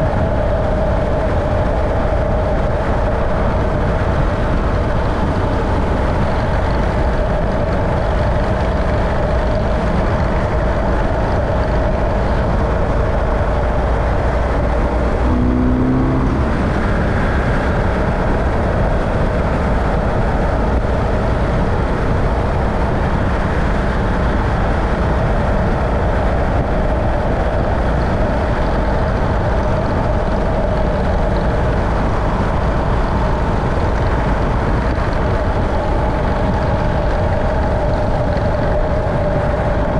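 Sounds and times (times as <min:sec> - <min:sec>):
vehicle engine and tyre noise: 0:00.0 - 0:39.9.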